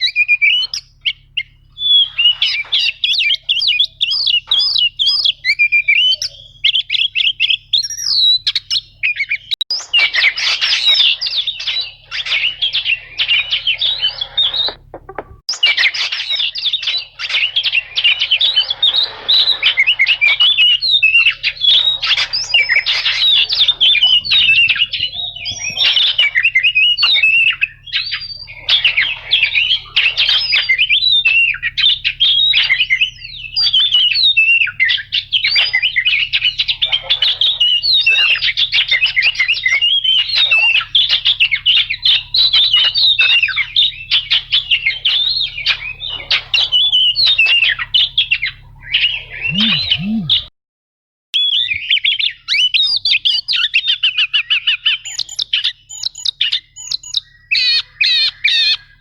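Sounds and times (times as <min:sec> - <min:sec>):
bird singing whistles and chatter: 0:00.0 - 0:50.5, 0:51.4 - 0:59.0.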